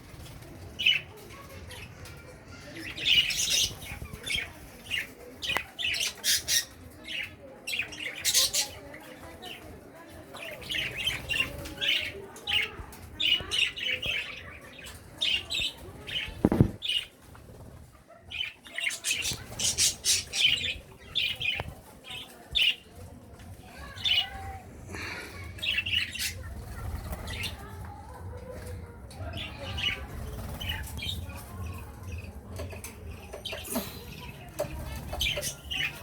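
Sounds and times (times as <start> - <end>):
birds chirping and squawking: 0.0 - 36.0.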